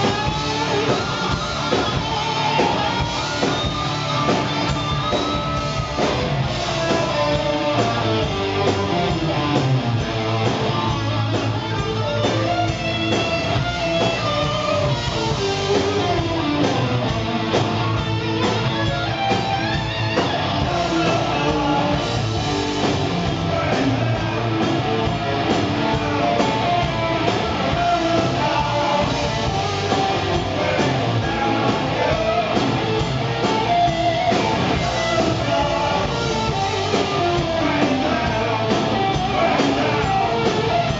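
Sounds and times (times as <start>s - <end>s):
bass guitar: 0.0s - 40.9s
drums: 0.0s - 40.9s
electric guitar: 0.0s - 40.9s.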